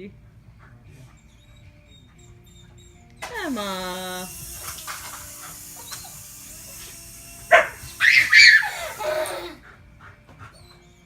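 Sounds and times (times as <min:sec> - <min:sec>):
dog barking and yelping: 0:01.1 - 0:10.9.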